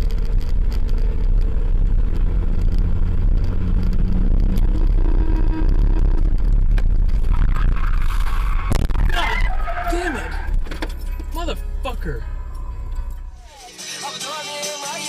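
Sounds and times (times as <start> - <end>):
car engine and road rumble: 0.0 - 14.1.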